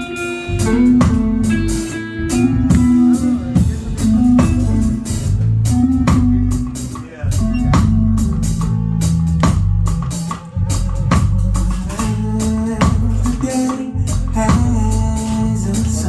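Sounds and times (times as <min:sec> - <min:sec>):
bass line: 0:00.0 - 0:16.0
drum kit hits: 0:00.0 - 0:16.0
held chords: 0:00.0 - 0:16.0.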